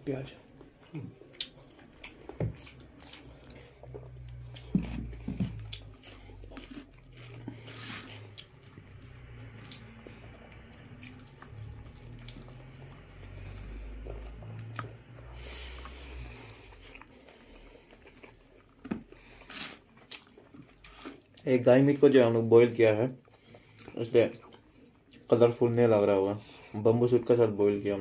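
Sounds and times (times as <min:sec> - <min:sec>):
low steady hum: 0:00.0 - 0:28.0
people chewing: 0:00.4 - 0:21.6, 0:23.2 - 0:25.8.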